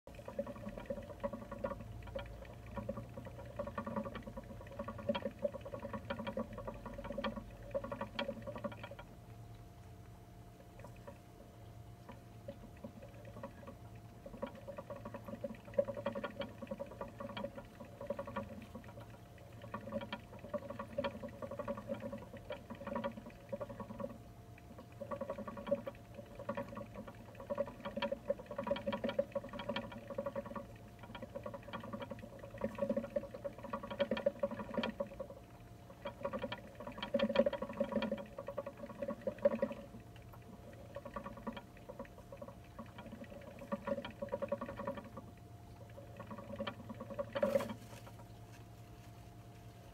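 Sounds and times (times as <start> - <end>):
hamster wheel rattling: 0.1 - 9.2, 10.5 - 49.9.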